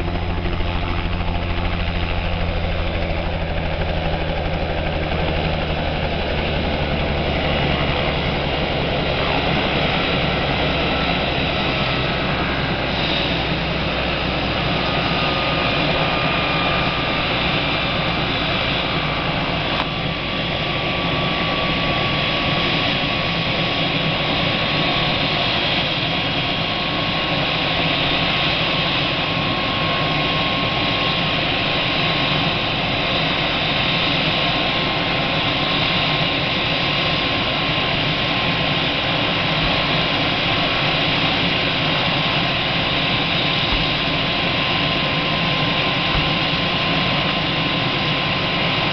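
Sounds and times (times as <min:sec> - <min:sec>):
helicopter idling with rotor turning: 0:00.0 - 0:48.9.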